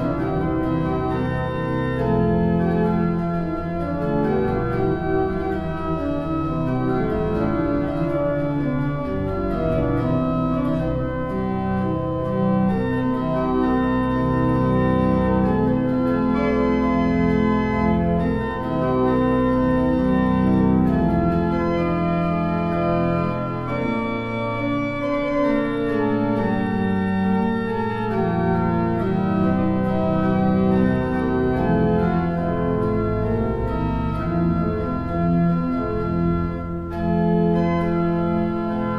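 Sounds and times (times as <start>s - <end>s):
organ chords: 0.0s - 38.9s.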